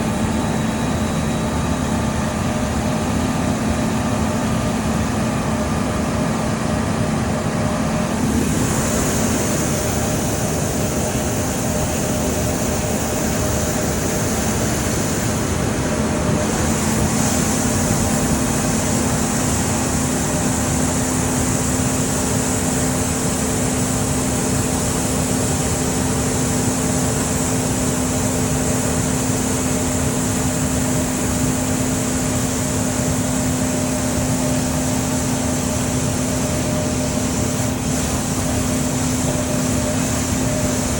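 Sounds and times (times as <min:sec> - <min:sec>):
engine drone: 0:00.0 - 0:40.9.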